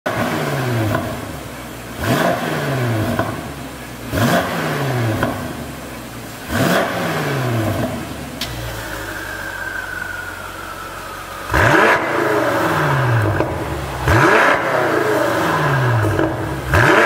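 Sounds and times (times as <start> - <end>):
car engine revving: 0.1 - 17.0.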